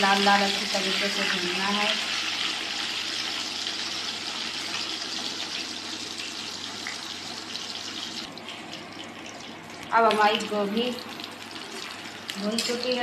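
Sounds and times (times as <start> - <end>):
florets sizzling in hot oil: 0.0 - 8.4, 9.9 - 13.0.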